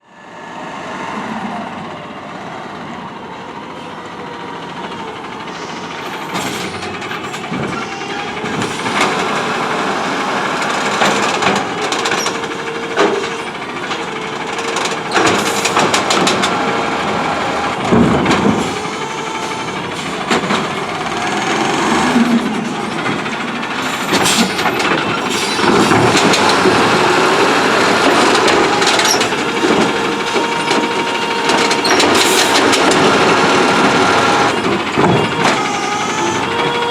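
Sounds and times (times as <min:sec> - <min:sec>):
garbage truck engine running: 0:00.3 - 0:36.9
hydraulic whine: 0:05.5 - 0:36.9
clanks and bangs of cart dumping: 0:06.1 - 0:36.9.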